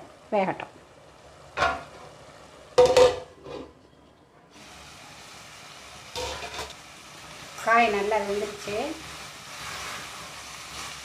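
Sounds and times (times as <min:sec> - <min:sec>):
vegetables frying in oil: 0:00.0 - 0:03.4, 0:04.5 - 0:11.0.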